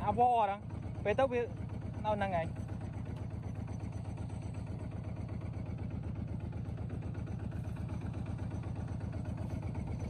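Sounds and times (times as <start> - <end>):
engine low throb: 0.0 - 10.0.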